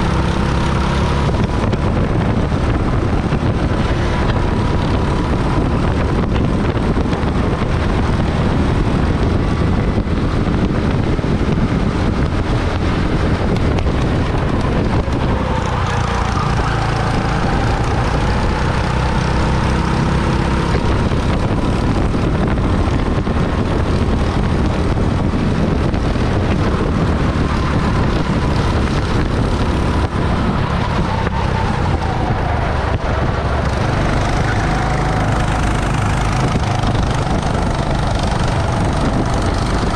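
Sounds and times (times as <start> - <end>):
go-kart engine rumble and whine: 0.0 - 39.9.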